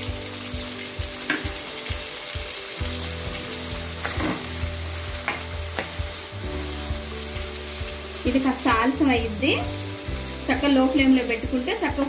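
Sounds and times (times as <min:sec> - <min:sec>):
lemon pieces sizzling in hot oil: 0:00.0 - 0:12.0.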